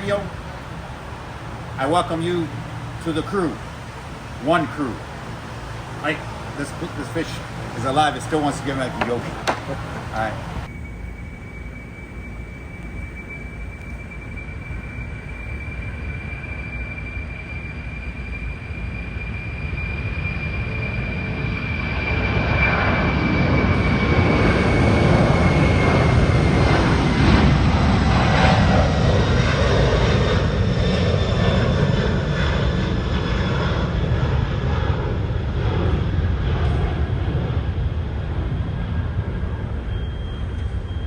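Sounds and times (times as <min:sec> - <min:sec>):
airplane passing overhead: 0:00.0 - 0:41.0
high whine falling in pitch: 0:00.0 - 0:41.0.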